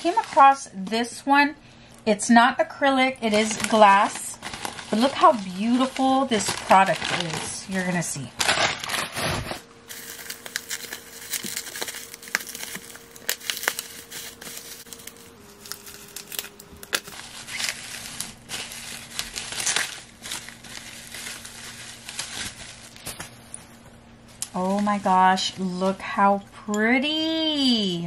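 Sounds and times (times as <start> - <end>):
bubble wrap crinkling: 0.0 - 1.0, 3.1 - 25.7.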